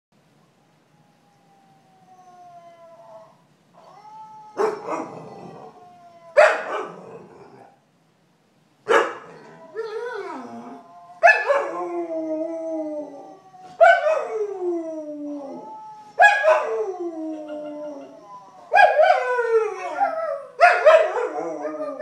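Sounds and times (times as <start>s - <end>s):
dog howling: 0.9s - 7.8s, 9.2s - 22.0s.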